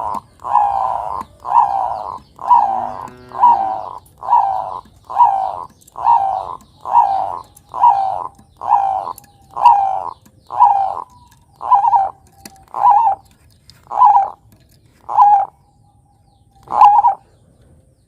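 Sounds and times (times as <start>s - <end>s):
dove cooing: 0.0s - 15.7s, 16.4s - 17.5s.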